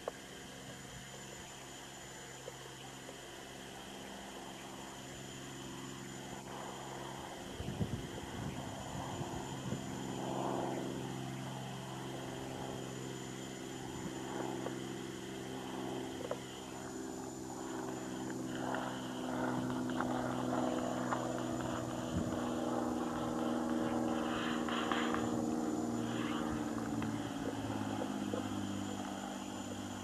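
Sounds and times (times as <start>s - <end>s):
propeller plane flying over: 0.0s - 30.0s.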